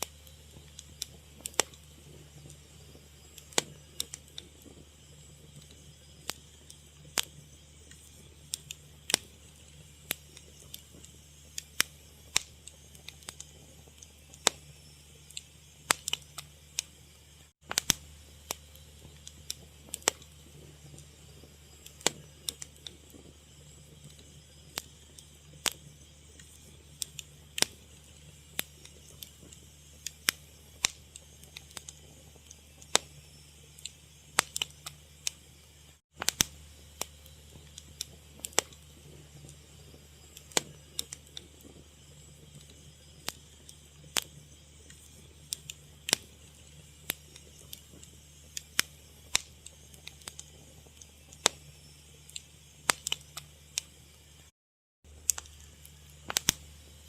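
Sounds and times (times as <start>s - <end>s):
fire crackling: 0.0s - 54.5s, 55.1s - 57.0s
steady low hum: 0.0s - 54.5s, 55.1s - 57.0s.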